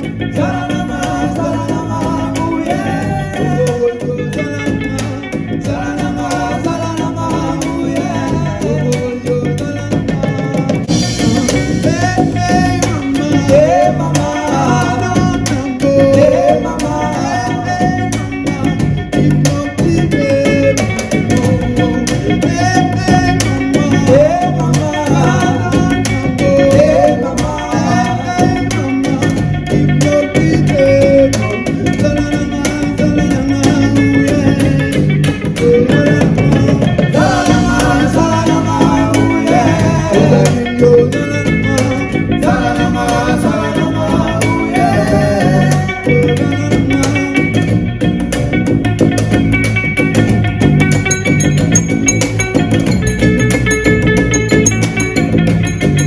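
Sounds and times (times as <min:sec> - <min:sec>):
man singing into microphone: 0:00.0 - 0:47.7
guitar: 0:00.0 - 0:56.0
steady drum beat: 0:00.0 - 0:56.0.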